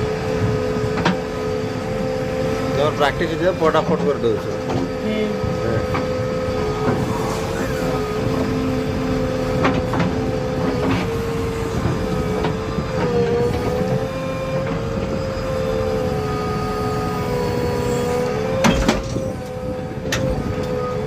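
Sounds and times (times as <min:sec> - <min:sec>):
diesel engine running under load: 0:00.0 - 0:21.0
steady whine: 0:00.0 - 0:21.0.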